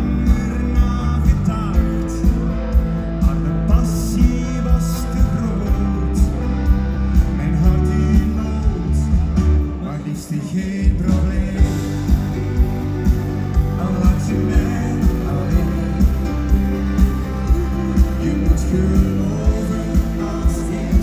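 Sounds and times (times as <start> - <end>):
bass guitar: 0.0 - 21.0
drums keeping a beat: 0.0 - 21.0
electric guitars: 0.0 - 21.0.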